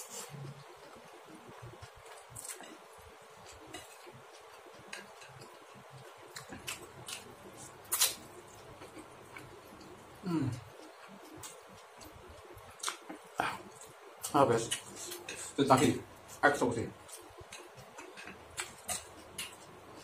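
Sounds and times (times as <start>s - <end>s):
wet chewing and mouth clicks: 0.1s - 20.0s.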